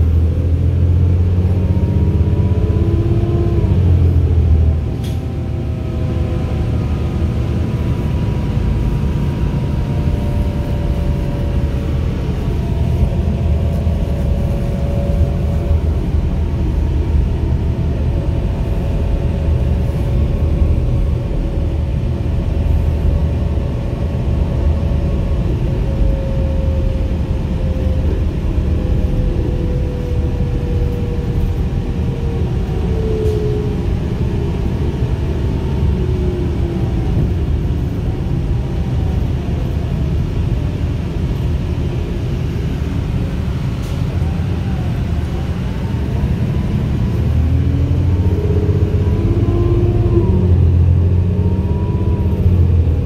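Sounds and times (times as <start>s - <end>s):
bus engine and road rumble: 0.0s - 53.0s
drivetrain whine: 0.0s - 53.0s.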